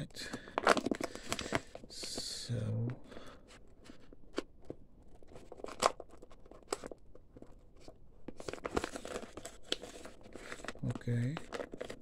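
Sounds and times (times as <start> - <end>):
plastic bag crinkling and rustling: 0.3 - 2.3, 3.1 - 12.0.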